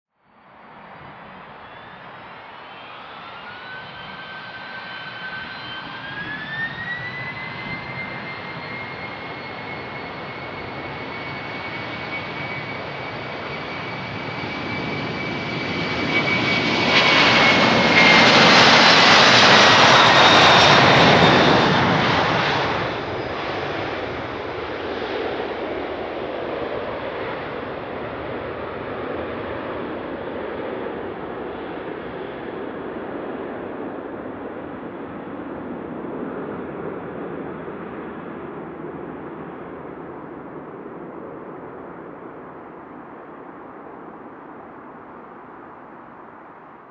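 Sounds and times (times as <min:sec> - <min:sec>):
jet engines whining at takeoff: 0:00.4 - 0:46.9.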